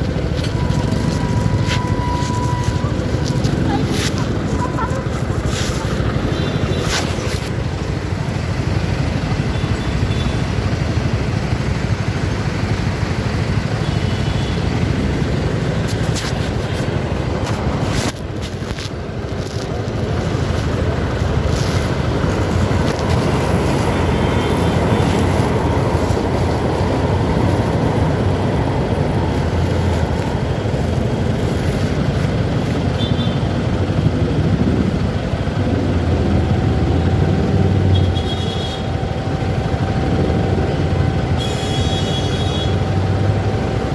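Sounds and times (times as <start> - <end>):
motorcycle engine running: 0.0 - 43.9
road and wind noise: 0.0 - 43.9.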